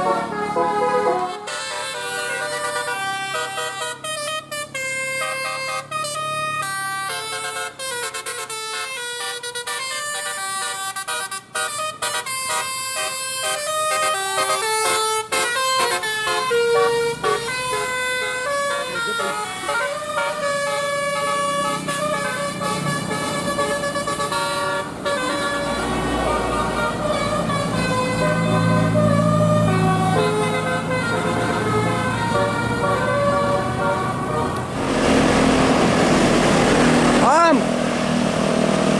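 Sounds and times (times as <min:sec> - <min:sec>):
multi-tone horn melody: 0:00.0 - 0:37.3.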